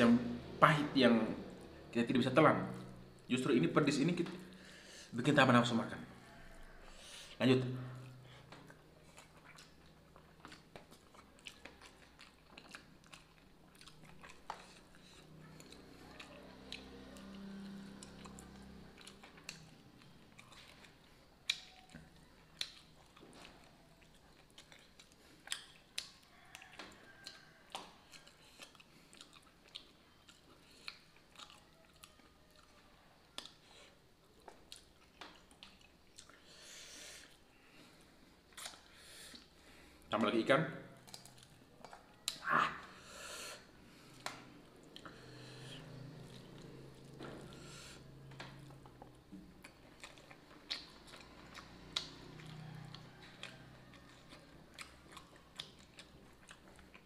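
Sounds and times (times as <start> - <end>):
man chewing food: 6.1 - 40.1, 40.9 - 57.0.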